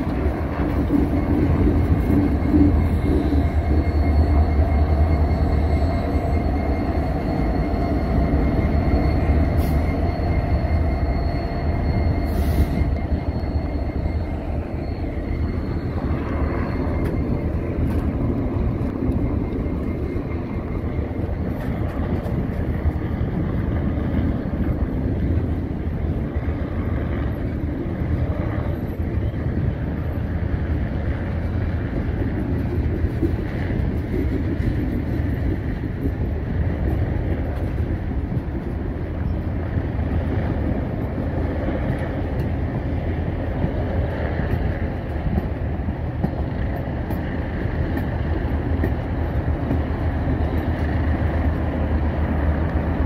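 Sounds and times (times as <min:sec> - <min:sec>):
thin high whine: 0:00.0 - 0:45.4
train rolling past: 0:00.0 - 0:53.0.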